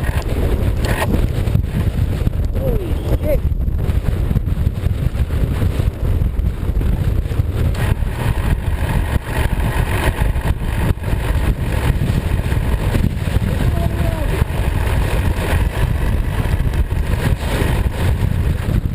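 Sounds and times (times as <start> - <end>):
vehicle engine low rumble: 0.0 - 18.9.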